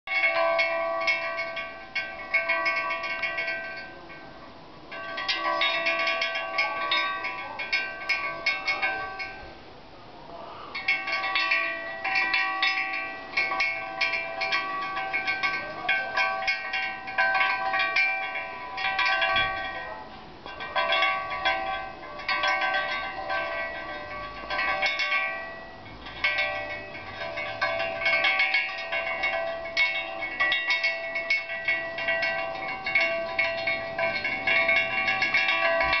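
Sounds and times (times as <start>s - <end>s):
struck metal ringing like a bell: 0.1s - 4.3s, 4.9s - 9.5s, 10.8s - 36.0s.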